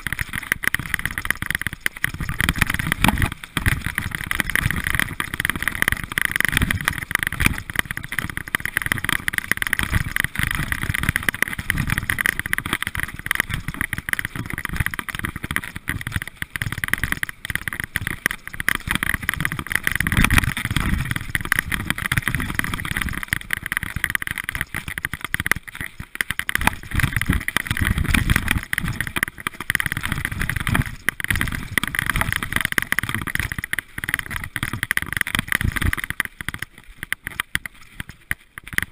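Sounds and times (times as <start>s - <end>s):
bike tyres rumbling and rattling: 0.0s - 38.9s.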